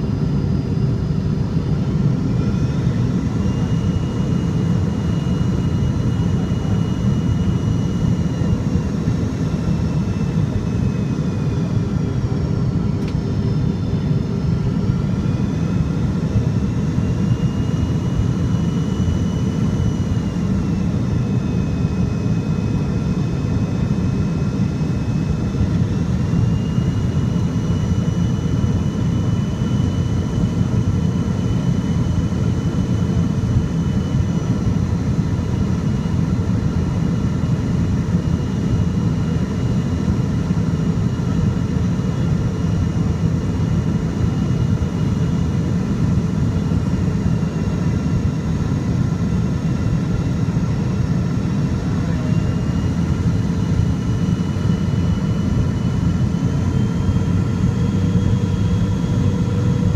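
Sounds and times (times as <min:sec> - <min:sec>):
high engine whine: 0:00.0 - 0:59.9.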